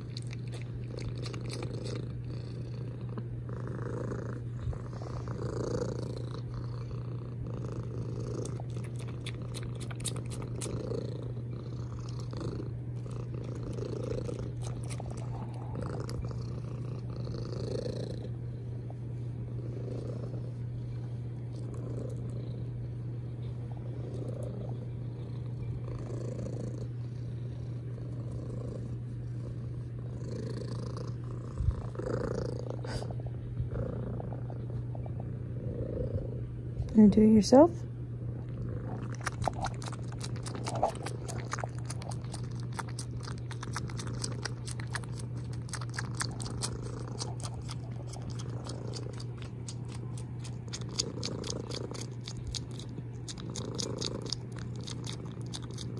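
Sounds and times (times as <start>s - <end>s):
cat purring loudly: 0.0s - 37.0s, 37.6s - 55.9s.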